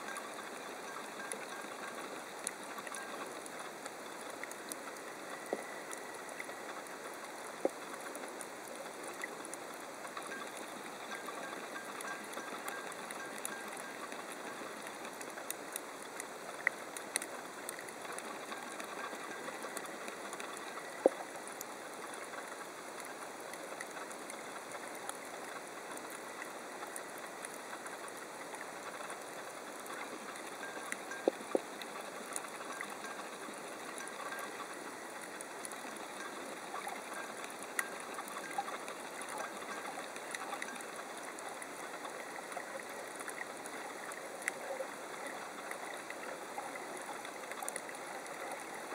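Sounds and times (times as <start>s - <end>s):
sharp clicks and crackles: 0.1s - 48.9s.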